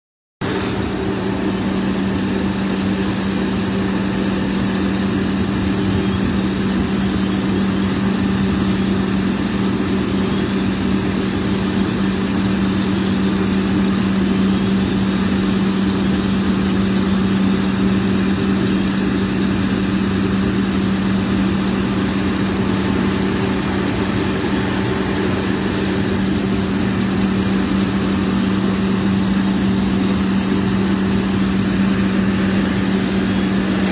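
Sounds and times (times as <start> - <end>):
engine humming steadily: 0.4 - 33.9.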